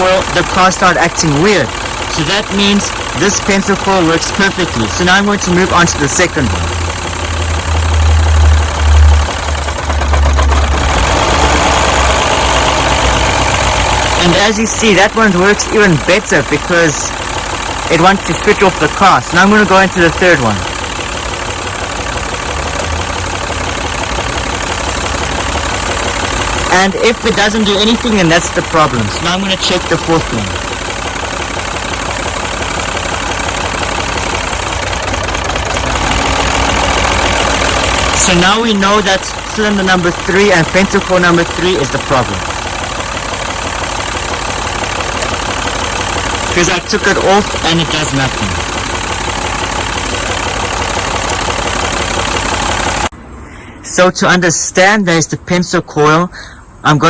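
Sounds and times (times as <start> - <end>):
car engine idling with misfire: 0.0 - 53.2.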